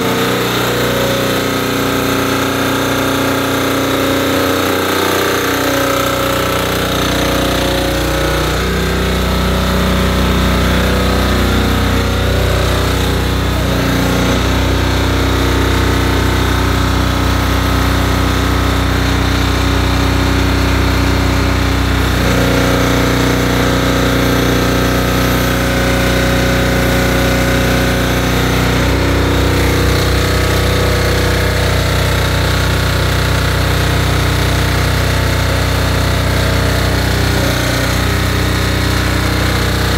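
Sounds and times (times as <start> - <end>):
fogging machine motor drone: 0.0 - 39.9.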